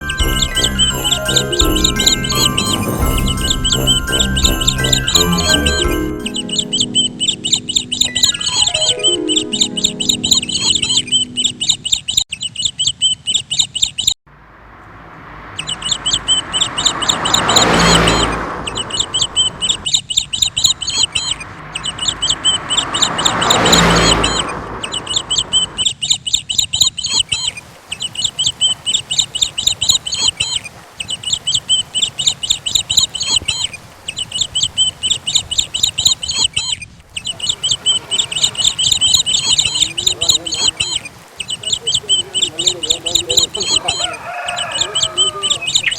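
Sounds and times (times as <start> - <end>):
birds chirping in high trills: 0.0 - 14.2, 15.6 - 45.9.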